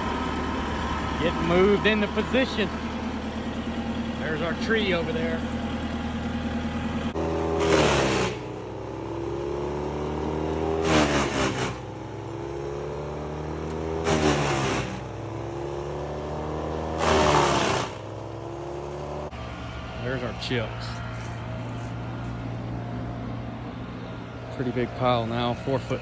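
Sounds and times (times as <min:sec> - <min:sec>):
wood chipper grinding brush: 0:00.0 - 0:22.8, 0:24.5 - 0:26.0
wood chipper engine running: 0:00.0 - 0:26.0.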